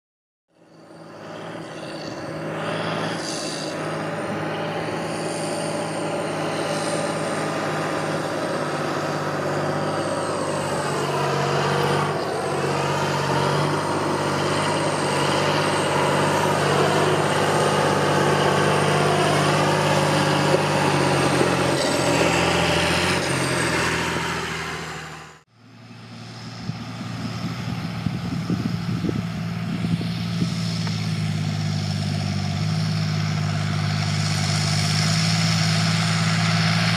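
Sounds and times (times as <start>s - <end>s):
high whine shifting in pitch: 0.5s - 36.9s
tractor diesel engine running: 0.5s - 36.9s.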